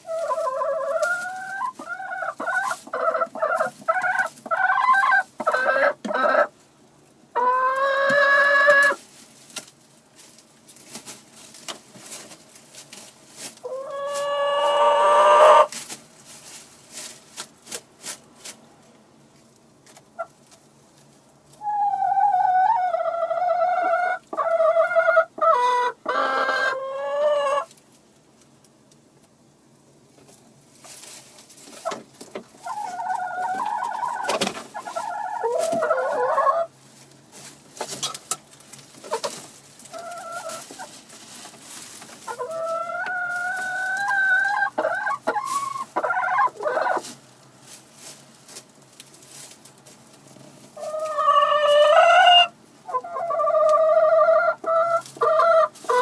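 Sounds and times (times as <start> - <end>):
chickens clucking: 0.0 - 18.6, 19.8 - 27.8, 30.2 - 56.0.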